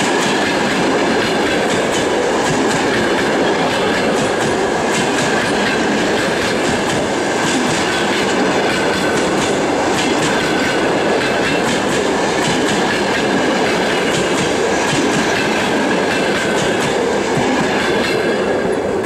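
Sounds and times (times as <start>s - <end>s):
clickety-clack over rail joints: 0.0s - 19.0s
train wheels rumbling on rail: 0.0s - 19.0s.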